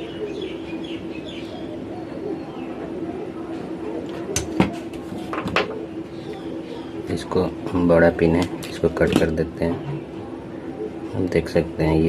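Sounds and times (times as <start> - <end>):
birds chirping: 0.0 - 12.0
pigeons cooing: 0.0 - 12.0
steady low hum: 0.0 - 12.0.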